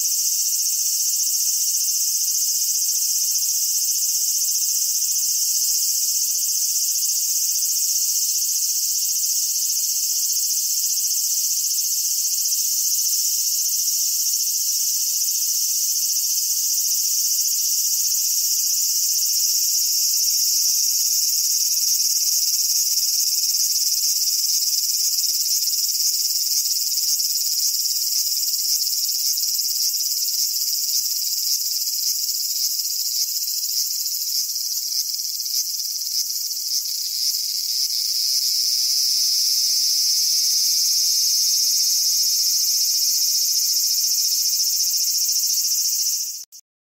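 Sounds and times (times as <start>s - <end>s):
cicadas buzzing: 0.0s - 46.6s.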